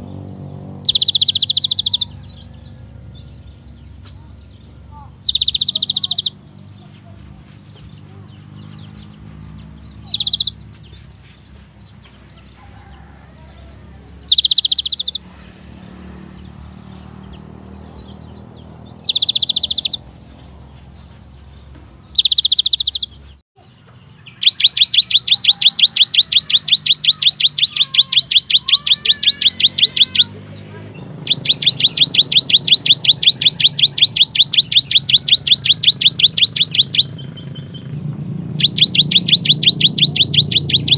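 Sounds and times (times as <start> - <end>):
bird fast trills: 0.0 - 23.4, 24.1 - 40.9
bird rapid high chips: 0.7 - 23.4, 24.2 - 40.9.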